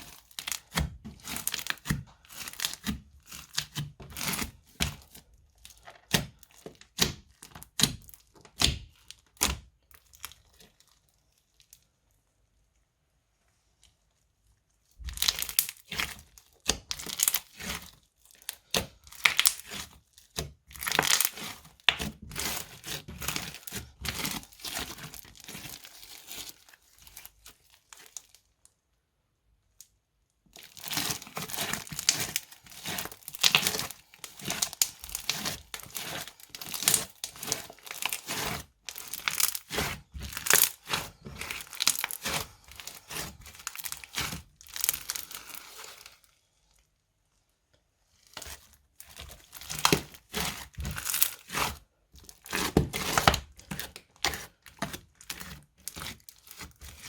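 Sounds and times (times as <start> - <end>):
slime crackling and popping: 0.0 - 11.8, 15.0 - 28.5, 30.6 - 46.4, 48.2 - 57.0.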